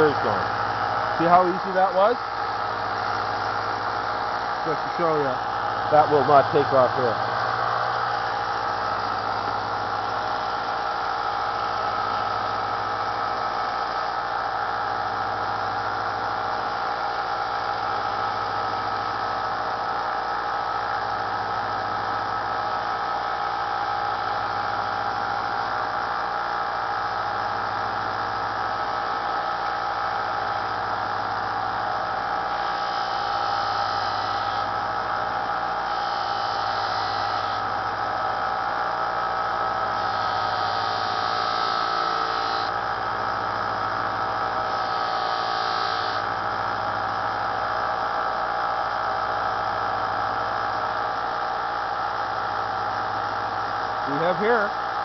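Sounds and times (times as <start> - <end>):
belt sander running: 0.0 - 55.0.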